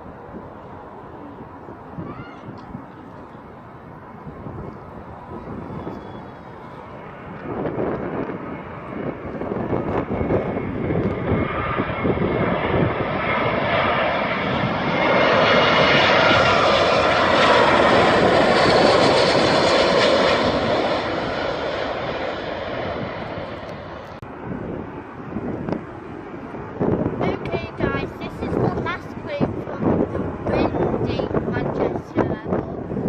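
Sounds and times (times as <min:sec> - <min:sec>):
airliner engine rumble: 0:00.0 - 0:33.0
wind buffeting microphone: 0:00.0 - 0:33.0.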